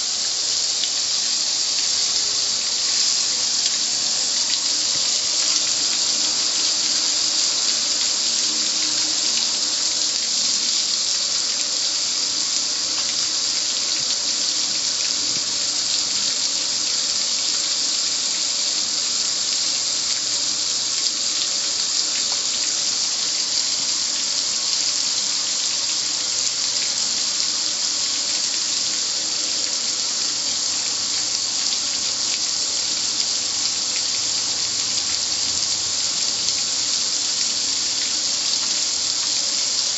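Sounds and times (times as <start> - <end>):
water spraying: 0.0 - 39.9.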